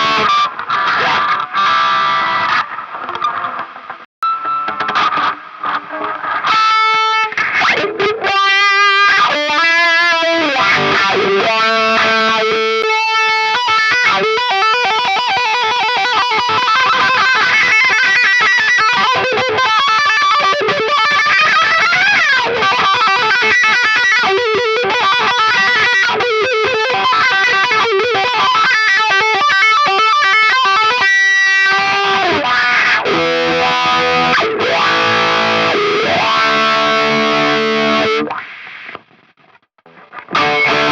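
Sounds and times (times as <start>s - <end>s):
electric guitar with wah pedal: 0.0s - 39.2s, 39.8s - 40.9s.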